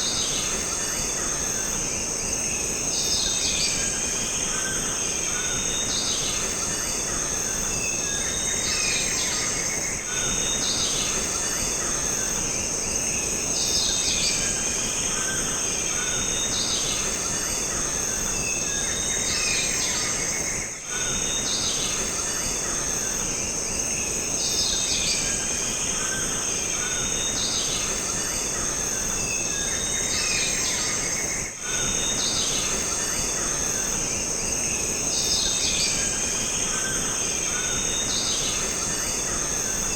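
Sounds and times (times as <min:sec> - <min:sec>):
bird and insect calls: 0:00.0 - 0:39.9
insects droning: 0:00.0 - 0:39.9.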